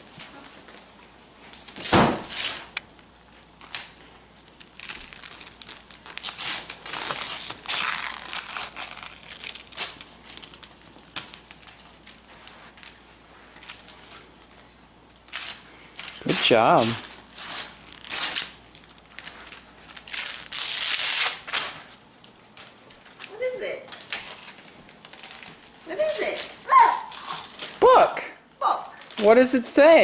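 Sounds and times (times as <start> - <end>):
wrapping paper crinkling and tearing: 3.3 - 27.9, 28.7 - 30.0.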